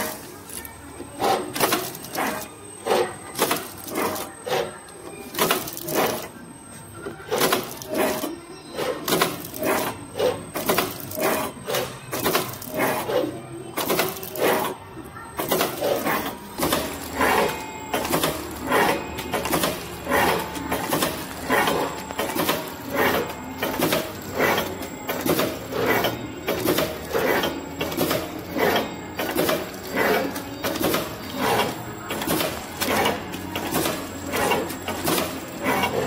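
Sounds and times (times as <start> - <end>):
wrapping machine clattering: 0.0 - 6.4, 7.3 - 14.8, 15.4 - 36.0.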